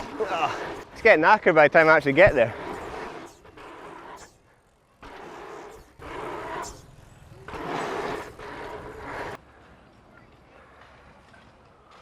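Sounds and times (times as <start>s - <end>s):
bike tyres rolling on dirt: 0.0s - 12.0s.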